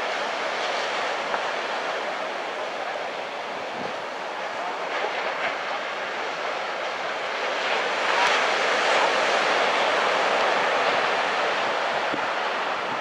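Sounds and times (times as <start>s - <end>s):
small surf breaking: 0.0s - 13.0s.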